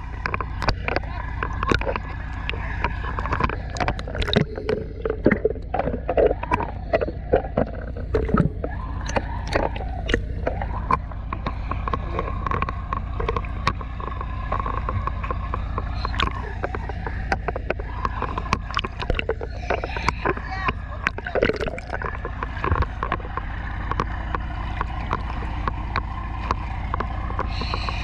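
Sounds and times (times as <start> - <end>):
dense crackling clicks: 0.0 - 28.0
faint wavering tones: 0.0 - 28.0
low underwater rumble: 0.0 - 28.0.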